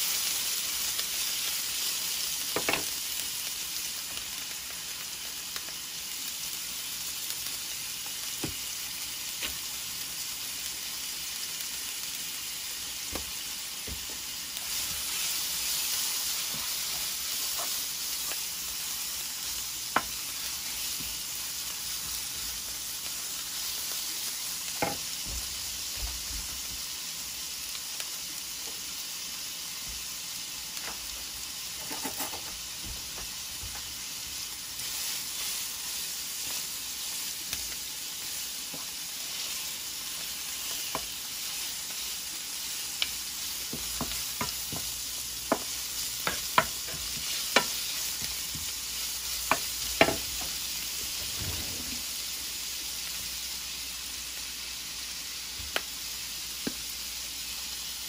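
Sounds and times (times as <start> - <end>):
steak sizzling in oil: 0.0 - 58.0.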